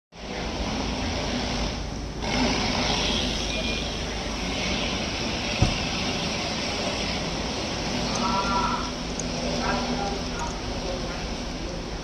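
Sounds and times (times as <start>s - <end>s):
workshop background noise: 0.2s - 12.0s.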